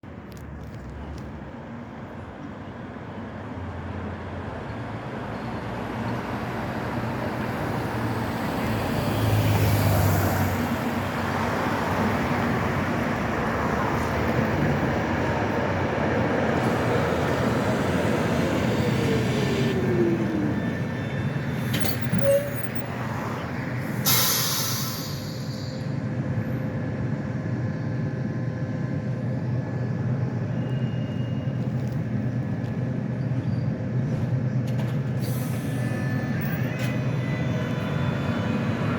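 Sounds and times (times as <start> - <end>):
tram running on track: 0.0 - 38.9.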